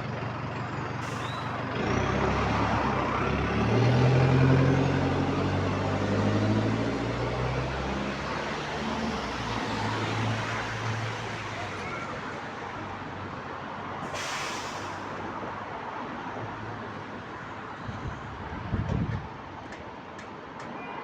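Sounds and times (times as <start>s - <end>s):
diesel bus engine running: 0.0s - 19.6s.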